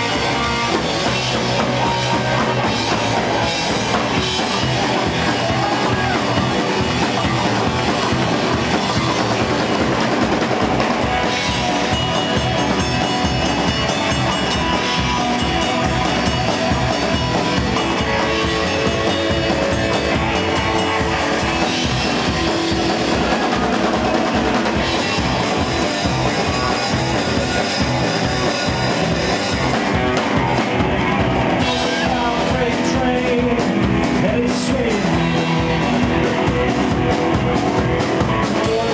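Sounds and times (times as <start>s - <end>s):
drum kit steady beat: 0.0s - 38.9s
electric guitar: 0.0s - 38.9s
upright bass: 0.0s - 38.9s.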